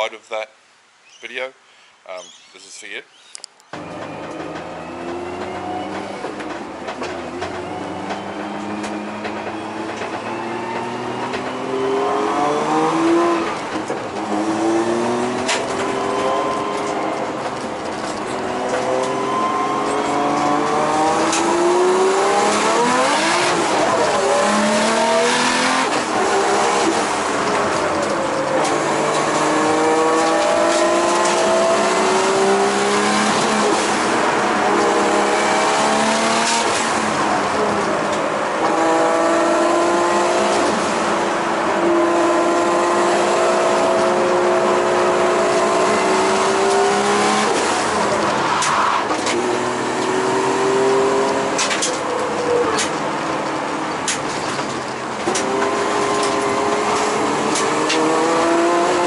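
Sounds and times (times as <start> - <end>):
car engine revving through gears: 3.8 - 59.0.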